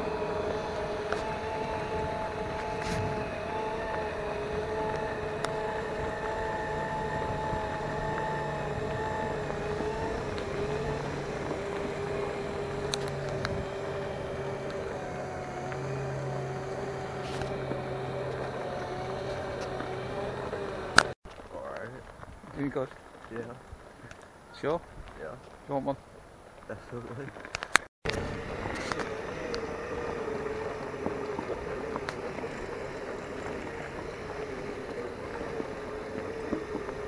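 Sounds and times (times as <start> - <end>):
vehicle motor running: 0.0 - 21.4, 26.8 - 37.0
low hum: 0.0 - 21.5, 28.1 - 37.0
steady whine: 0.0 - 23.5, 27.8 - 37.0.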